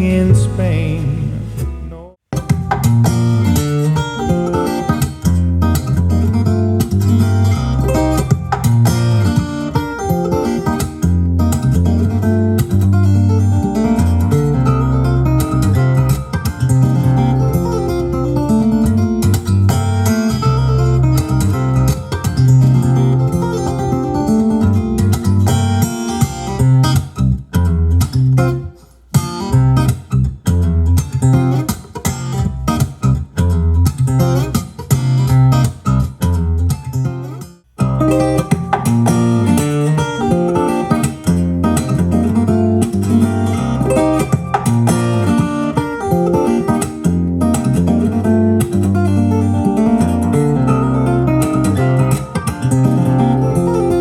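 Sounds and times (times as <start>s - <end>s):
bass line: 0.0s - 37.1s, 37.8s - 54.0s
plucked acoustic guitar: 0.0s - 54.0s.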